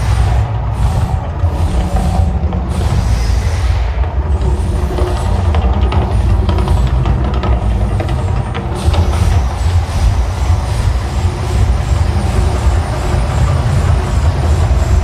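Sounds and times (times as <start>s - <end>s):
eruption effects roar over loudspeakers: 0.0s - 15.0s.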